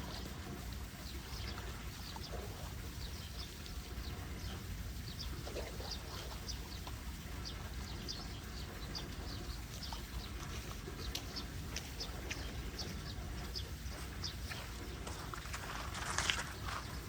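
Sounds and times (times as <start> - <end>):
birds chirping: 0.0 - 17.0
running water rumble: 0.0 - 17.0.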